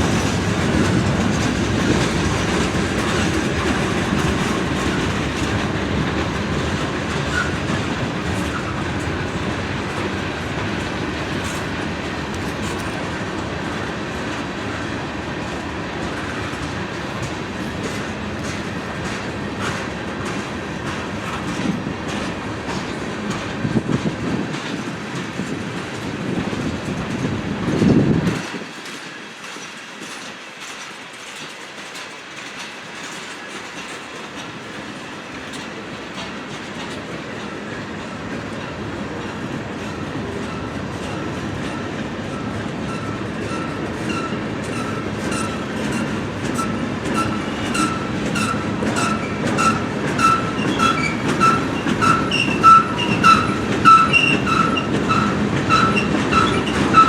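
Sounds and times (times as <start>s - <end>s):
freight train rolling past: 0.0s - 57.0s
wheels clacking over rail joints: 0.0s - 57.0s.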